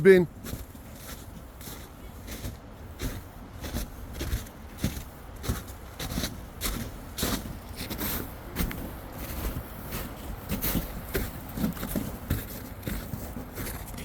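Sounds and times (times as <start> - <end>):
footsteps walking: 0.4 - 14.0.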